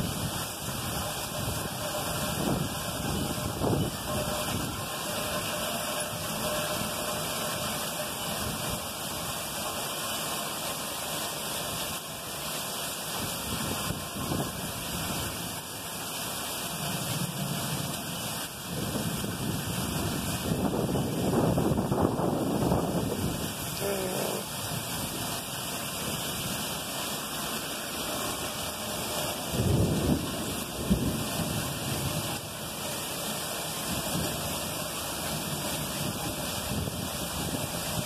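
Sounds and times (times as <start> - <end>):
pouring rain: 0.0 - 38.0.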